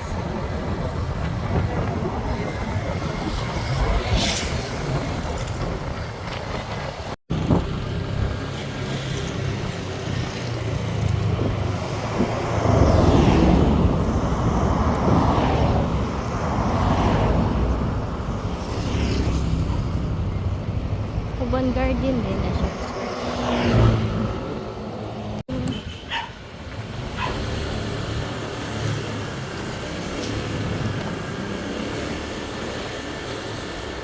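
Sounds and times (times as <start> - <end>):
vehicle engine and road noise: 0.0 - 34.0.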